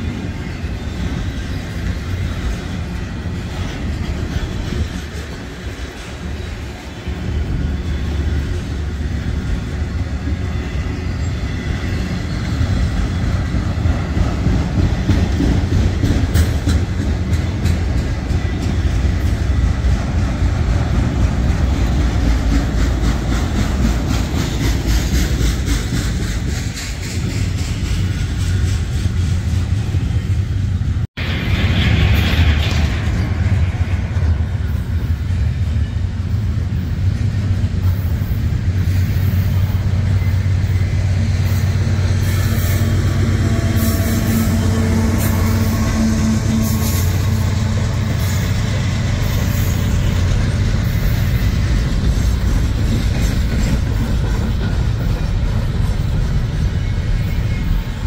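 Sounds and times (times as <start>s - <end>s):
freight train wheels rumbling: 0.0s - 58.0s
rail car clacks: 0.0s - 58.0s.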